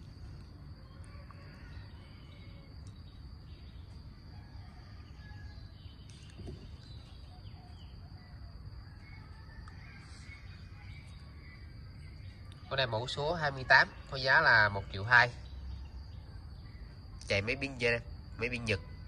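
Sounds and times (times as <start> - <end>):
faint bird chirps: 0.0 - 19.0
high-pitched insect trill: 0.0 - 19.0
low background noise: 0.0 - 19.0.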